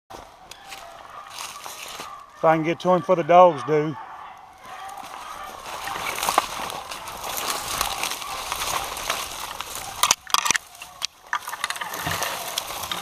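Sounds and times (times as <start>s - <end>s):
footsteps through dry brush: 0.1s - 3.1s, 4.0s - 13.0s.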